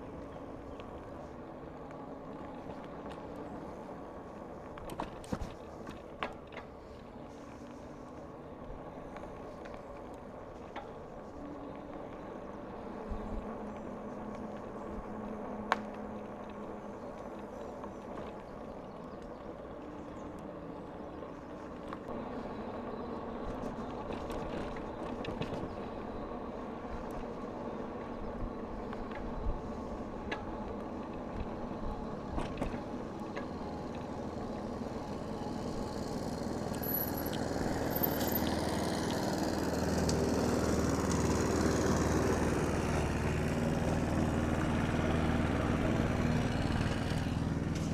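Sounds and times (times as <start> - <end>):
bicycle tyre and drivetrain noise: 0.0 - 47.9.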